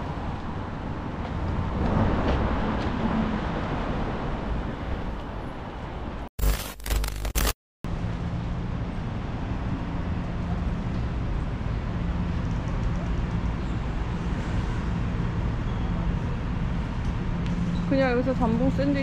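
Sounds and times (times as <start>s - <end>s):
city street traffic: 0.0s - 6.4s, 7.9s - 19.0s.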